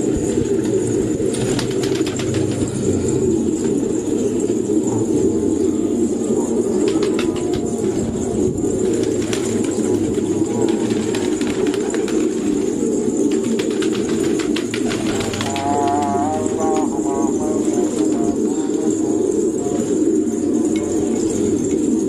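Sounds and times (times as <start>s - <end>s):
pigeons cooing: 0.0s - 22.0s
wings flapping: 0.0s - 22.0s.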